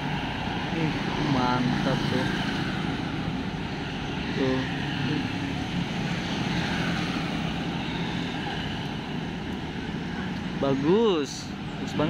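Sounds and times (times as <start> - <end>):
traffic engine drone: 0.0 - 12.0.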